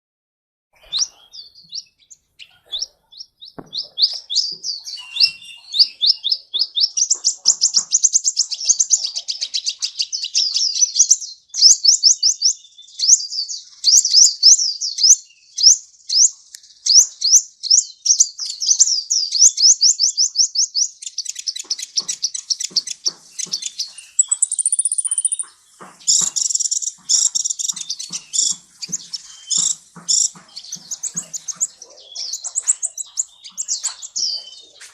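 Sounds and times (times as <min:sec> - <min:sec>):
sunbird song: 0:00.8 - 0:34.9.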